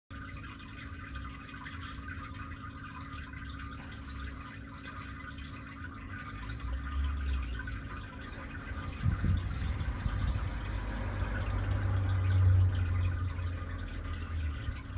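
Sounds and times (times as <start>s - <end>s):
filter humming: 0.1s - 14.9s
water trickling and dripping: 0.1s - 14.9s.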